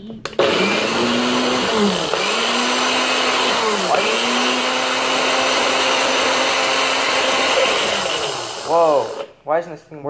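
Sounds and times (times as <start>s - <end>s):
blender motor whirring: 0.4s - 9.3s.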